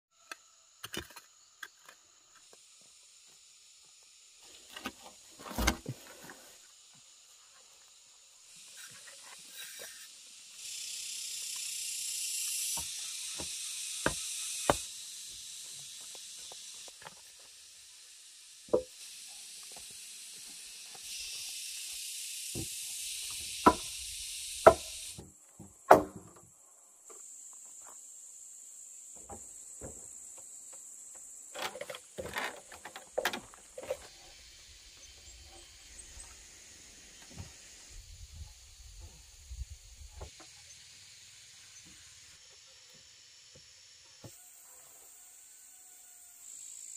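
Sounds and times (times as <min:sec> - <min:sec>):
insects shrilling: 0:01.2 - 0:25.5, 0:26.6 - 0:46.9.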